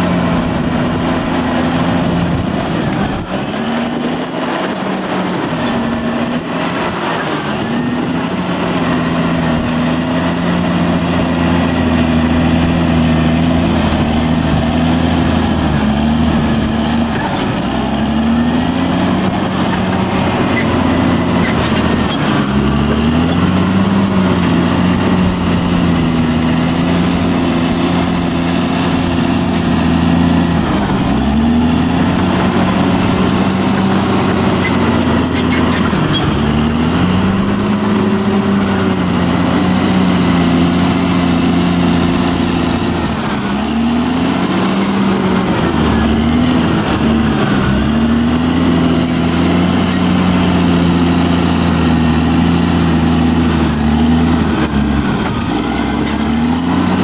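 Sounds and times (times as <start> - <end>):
bulldozer diesel engine running hard: 0.0 - 57.0.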